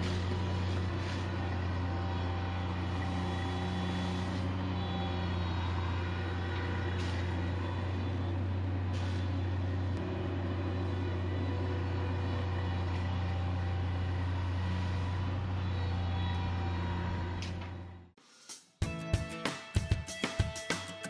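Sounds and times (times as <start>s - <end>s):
track loader engine running: 0.0s - 18.1s.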